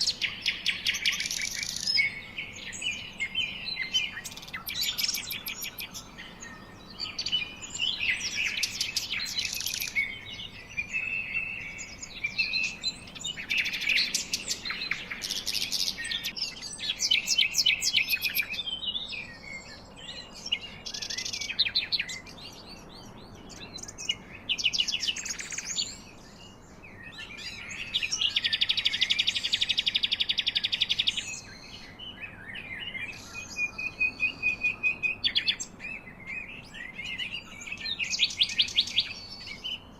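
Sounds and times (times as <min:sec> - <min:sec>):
bird trill: 0:00.0 - 0:39.9
birds chirping and singing: 0:00.0 - 0:39.9.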